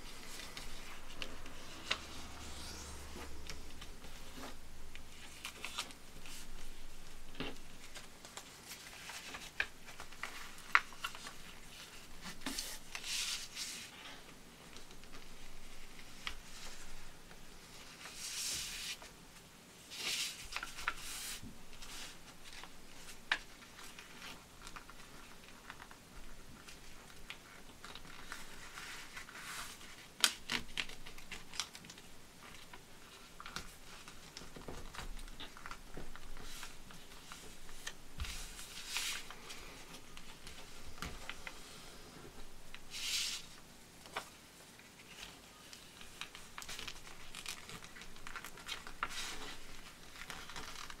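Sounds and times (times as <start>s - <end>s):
paper crackle: 0.0s - 19.1s, 19.9s - 51.0s
paper rustling: 0.0s - 19.2s, 19.8s - 51.0s.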